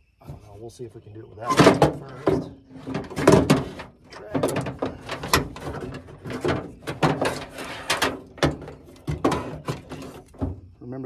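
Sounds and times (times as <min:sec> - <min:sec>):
metal clattering and scraping: 0:01.4 - 0:10.7.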